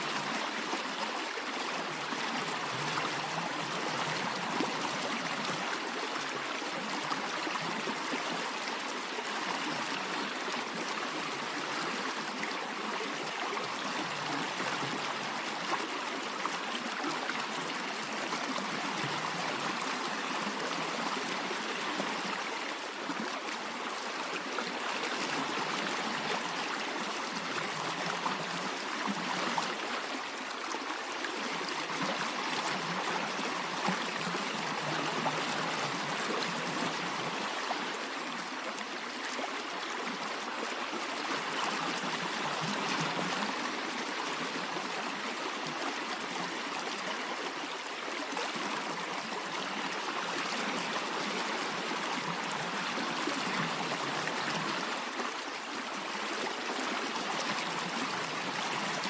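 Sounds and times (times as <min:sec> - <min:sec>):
stream rushing and trickling: 0:00.0 - 0:59.0.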